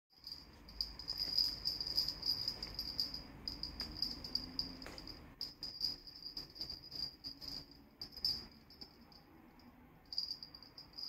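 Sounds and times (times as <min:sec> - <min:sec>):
small bells ringing on a toy: 0:00.2 - 0:11.0.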